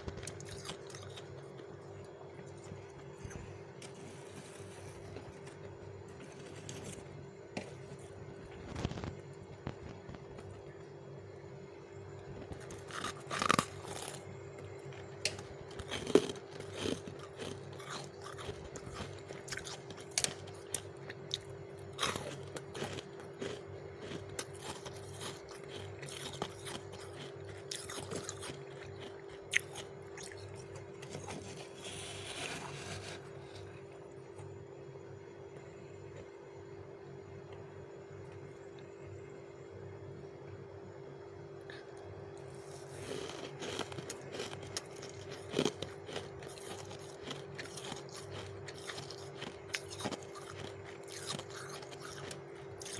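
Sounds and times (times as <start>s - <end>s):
frost being chewed: 0.0s - 10.9s, 12.0s - 34.5s, 41.7s - 52.9s
steady low hum: 0.0s - 52.9s.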